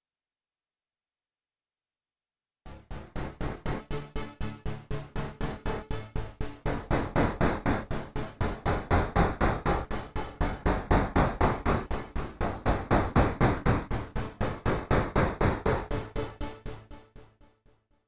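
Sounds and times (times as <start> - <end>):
low synthesizer notes: 2.7 - 17.3.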